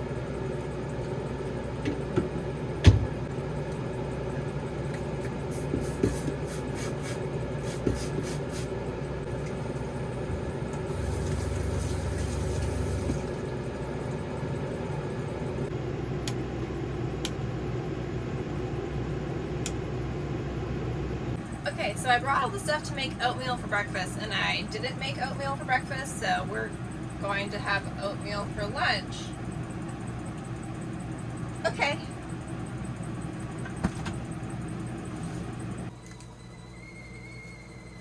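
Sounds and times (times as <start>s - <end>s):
air conditioner hum: 0.0s - 38.0s.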